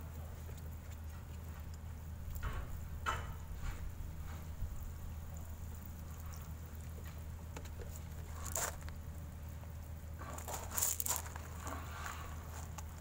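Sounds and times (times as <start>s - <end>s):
water spray pattering on plants: 0.0s - 13.0s.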